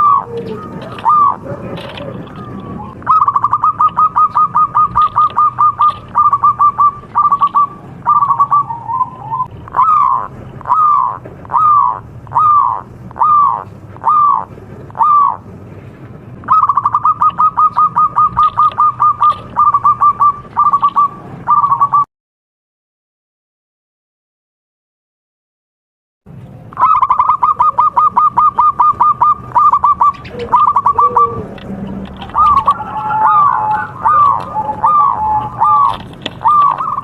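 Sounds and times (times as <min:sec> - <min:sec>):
dove cooing: 0:00.0 - 0:15.5, 0:16.5 - 0:22.1, 0:26.7 - 0:37.0.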